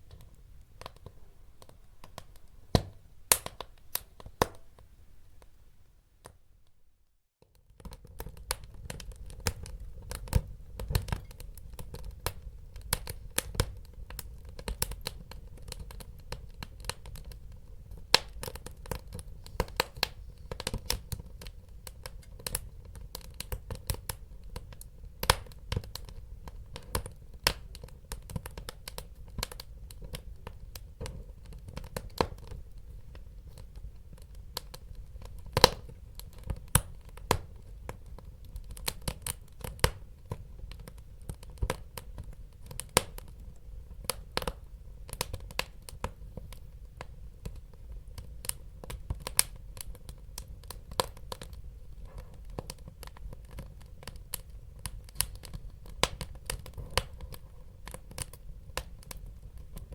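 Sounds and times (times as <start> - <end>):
wood fire crackling: 0.0 - 6.4, 7.4 - 59.9.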